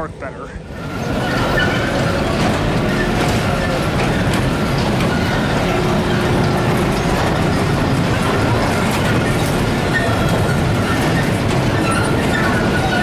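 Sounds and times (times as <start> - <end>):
ride cars rumbling on track: 0.0 - 13.0.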